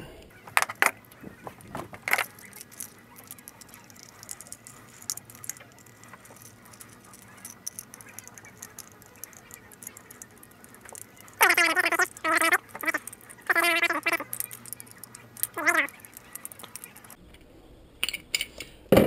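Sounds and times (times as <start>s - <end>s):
plastic parts being handled: 0.3s - 17.2s.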